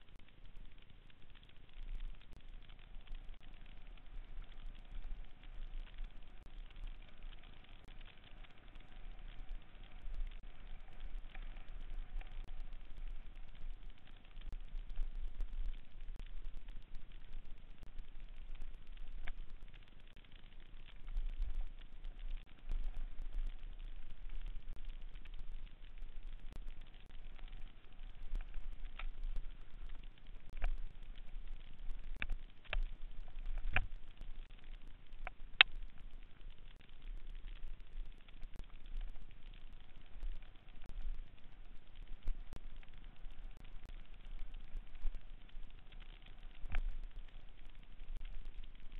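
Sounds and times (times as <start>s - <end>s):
low rumble: 0.0s - 48.9s.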